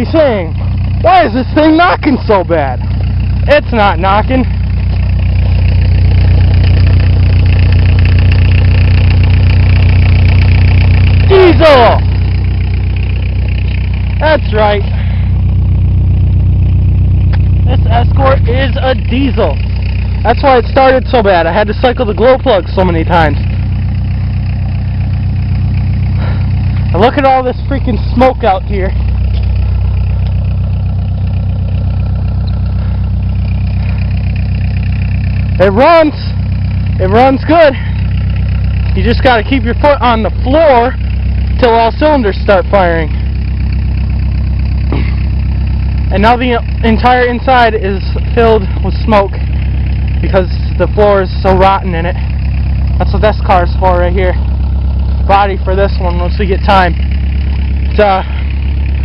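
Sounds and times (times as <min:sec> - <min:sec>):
diesel engine clattering: 0:00.0 - 0:59.0.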